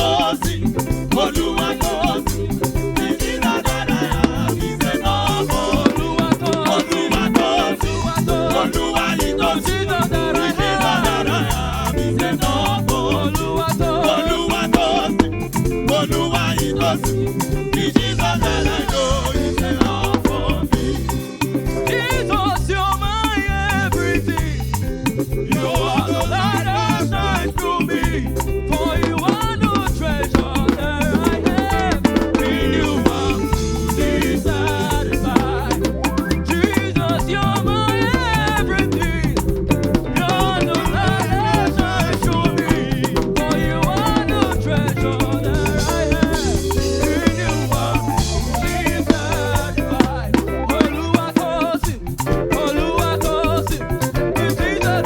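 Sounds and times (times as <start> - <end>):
busy drum beat: 0.0 - 55.0
gospel band playing: 0.0 - 55.0
people singing: 0.0 - 55.0.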